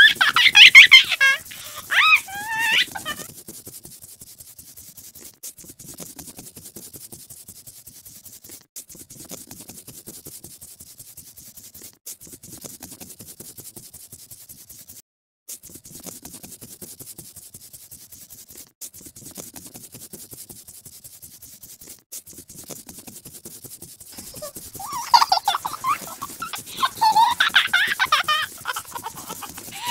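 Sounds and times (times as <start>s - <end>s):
scribbling on paper: 0.0s - 29.9s.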